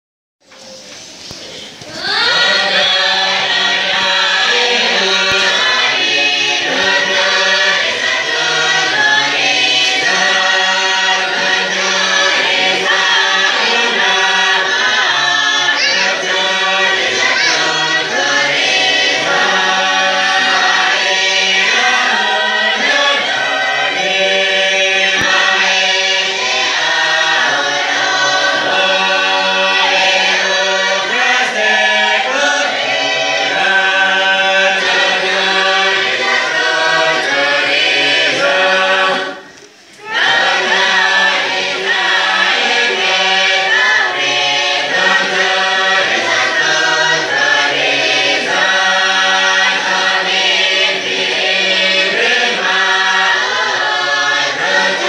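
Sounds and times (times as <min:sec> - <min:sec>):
choir singing a hymn: 0:01.2 - 0:55.0.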